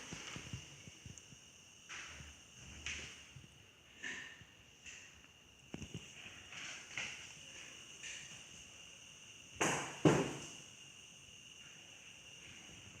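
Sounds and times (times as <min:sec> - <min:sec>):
faint high hiss: 0:00.0 - 0:13.0.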